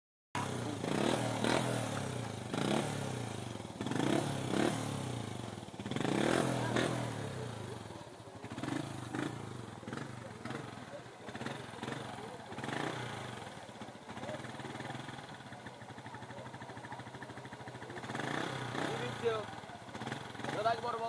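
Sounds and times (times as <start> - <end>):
motorcycle engine revving: 0.3 - 21.0.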